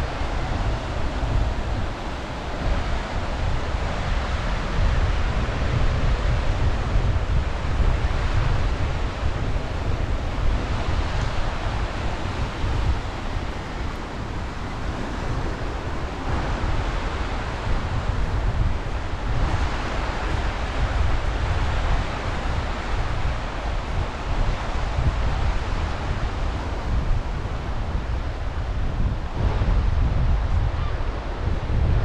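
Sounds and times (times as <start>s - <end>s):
sea waves washing ashore: 0.0s - 32.0s
wind buffeting microphone: 0.0s - 32.0s.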